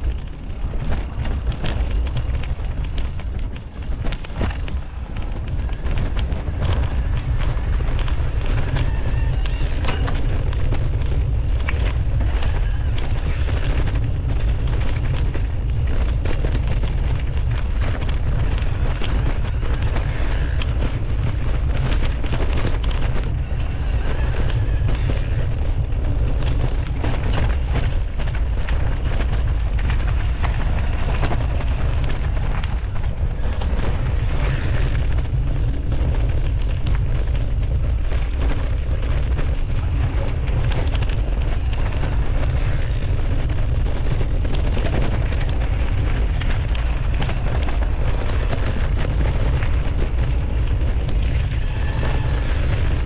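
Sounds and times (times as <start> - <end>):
bike clattering on rough trail: 0.0 - 53.0
wind buffeting microphone: 0.0 - 53.0.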